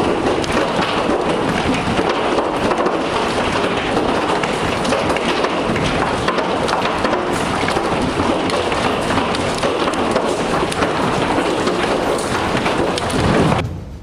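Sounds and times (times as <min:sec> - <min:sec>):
hail pelting hard surfaces: 0:00.0 - 0:13.6.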